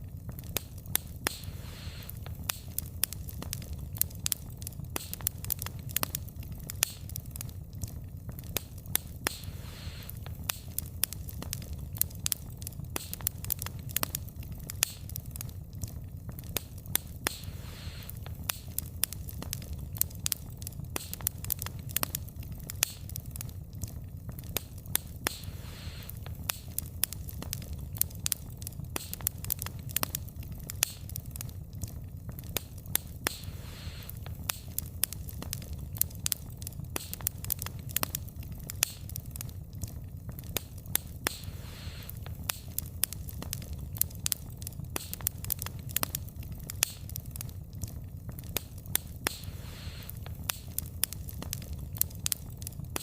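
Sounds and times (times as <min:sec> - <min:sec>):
firewood crackling and popping: 0:00.0 - 0:53.0
low rumble of flames: 0:00.0 - 0:53.0.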